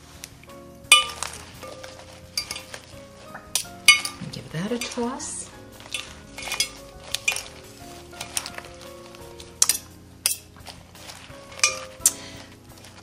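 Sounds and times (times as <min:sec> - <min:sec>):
salad leaves rustling: 0:00.0 - 0:13.0
metal utensils clinking on glass: 0:00.9 - 0:13.0.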